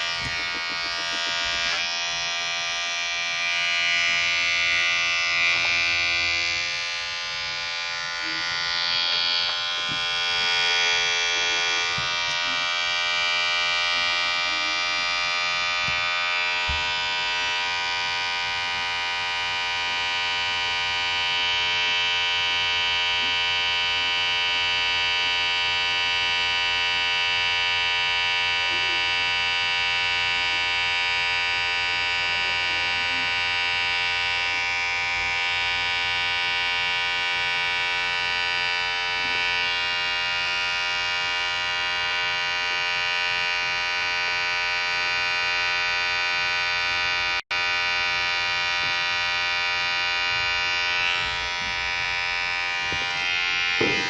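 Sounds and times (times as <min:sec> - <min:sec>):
electric hair clipper buzzing: 0:00.0 - 0:54.0.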